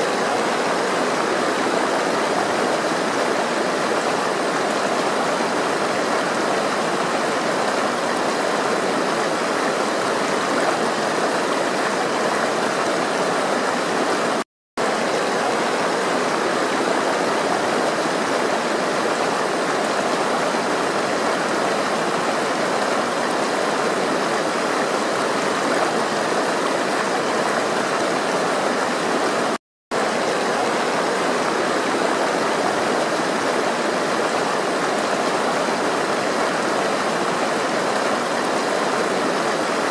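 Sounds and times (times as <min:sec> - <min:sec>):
rushing stream: 0:00.0 - 0:39.9.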